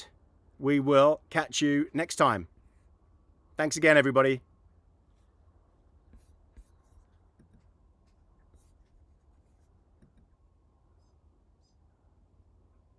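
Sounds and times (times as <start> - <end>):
faint background hum: 0.0 - 12.9.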